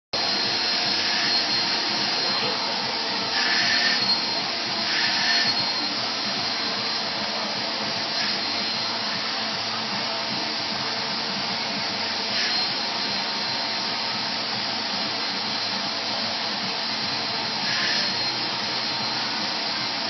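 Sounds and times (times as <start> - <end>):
vacuum cleaner running: 0.2 - 20.0.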